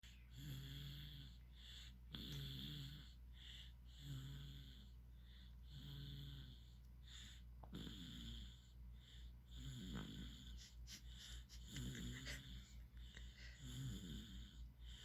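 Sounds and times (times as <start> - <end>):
baby snoring softly: 0.0 - 15.0.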